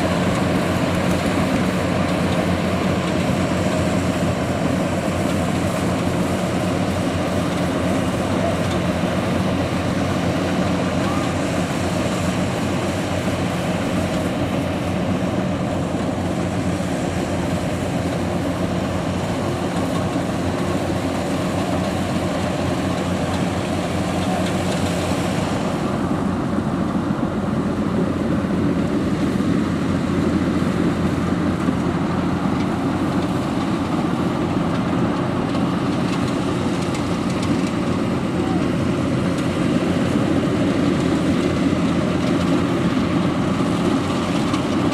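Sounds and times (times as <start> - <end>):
combine harvester engine running: 0.0 - 44.9.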